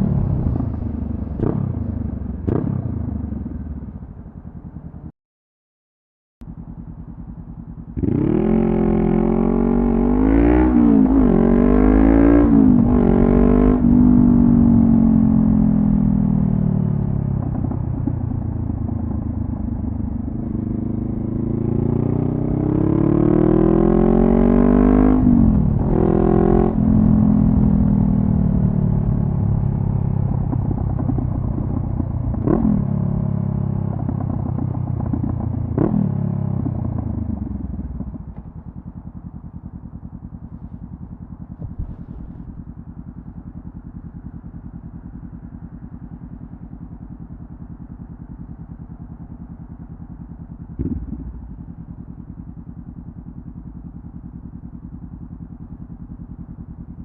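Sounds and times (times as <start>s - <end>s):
motorcycle engine accelerating: 0.0s - 5.1s, 6.4s - 57.0s.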